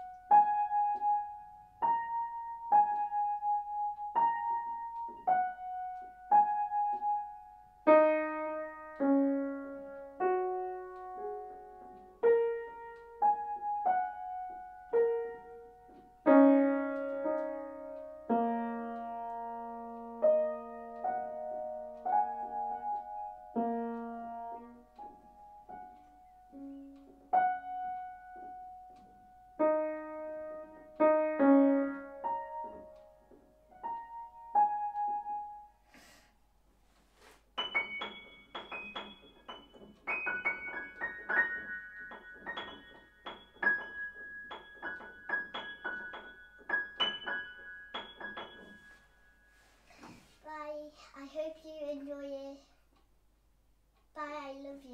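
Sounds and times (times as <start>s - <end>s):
grand piano playing: 0.0s - 35.7s, 37.6s - 49.5s.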